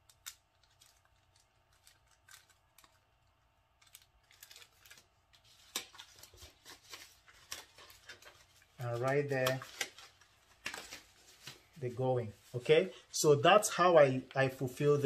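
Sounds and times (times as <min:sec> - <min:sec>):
paper and packaging rustling: 0:00.0 - 0:12.7.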